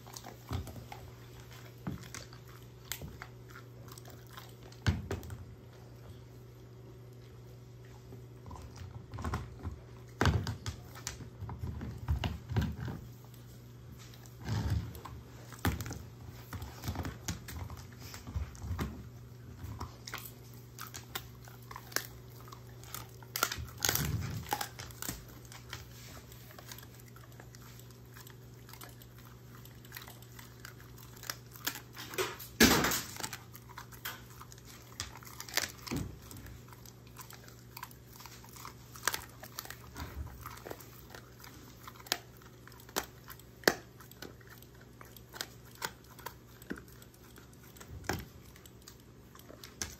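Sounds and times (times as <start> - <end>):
dog chewing crunchy treats: 0.0 - 49.9
faint low hum: 0.0 - 49.9.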